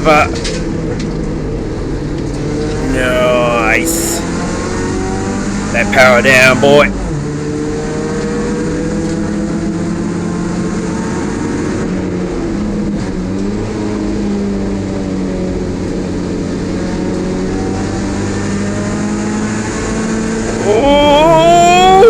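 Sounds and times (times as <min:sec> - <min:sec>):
race car engine at speed: 0:00.0 - 0:20.7.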